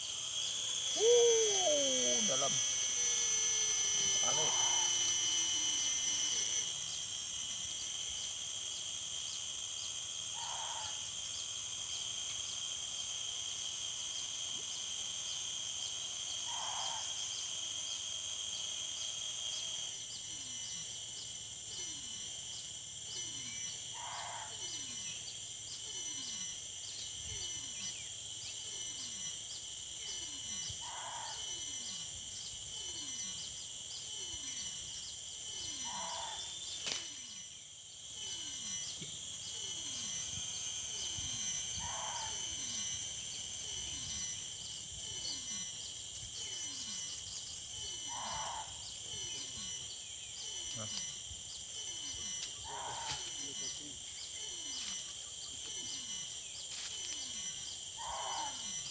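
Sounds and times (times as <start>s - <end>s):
night insects droning: 0.0s - 58.9s.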